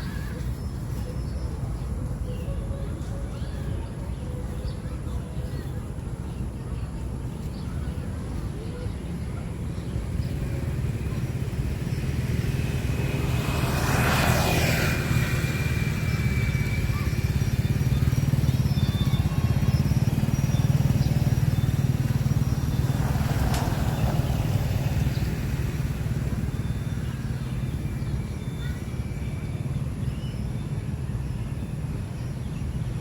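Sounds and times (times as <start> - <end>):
low engine rumble: 0.0 - 33.0
vehicles passing by: 0.0 - 33.0.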